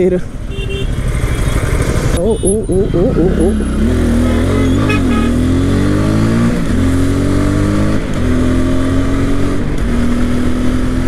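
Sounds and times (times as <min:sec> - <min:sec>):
motorcycle engine accelerating: 0:00.8 - 0:11.0.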